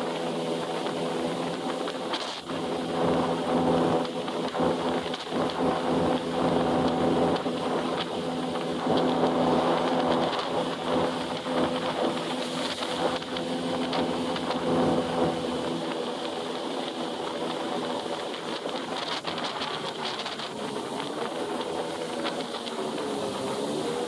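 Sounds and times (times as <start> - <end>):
jet ski engine running: 0.0 - 24.0
water hissing past hull: 0.0 - 24.0
wind rushing over microphone: 0.0 - 24.0.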